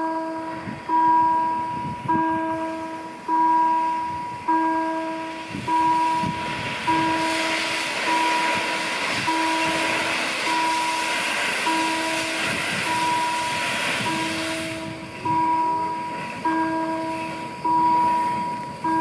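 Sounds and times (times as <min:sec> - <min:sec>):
warning bell ringing: 0:00.0 - 0:08.6, 0:11.7 - 0:19.0
locomotive exhaust beats: 0:00.0 - 0:19.0
steam hissing from cylinder cocks: 0:00.0 - 0:19.0.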